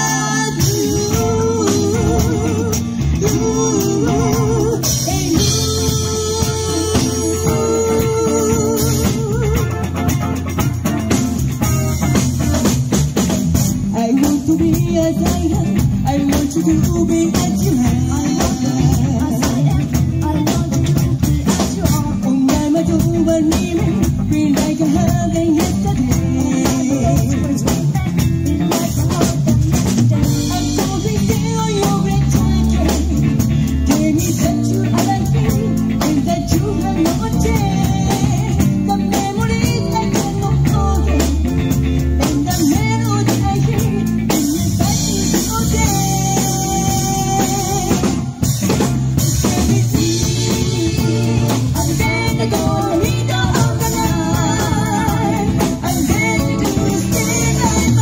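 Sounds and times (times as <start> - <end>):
person singing: 0.0 - 10.2, 13.8 - 58.0
live rock band playing: 0.0 - 58.0.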